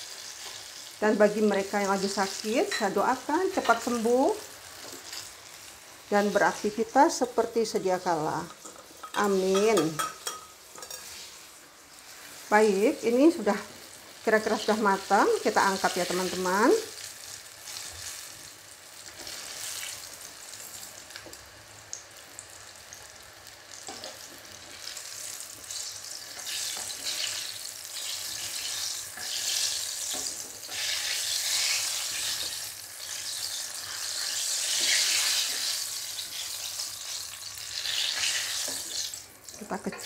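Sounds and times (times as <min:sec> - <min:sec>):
frying in hot oil sizzling: 0:00.0 - 0:40.0.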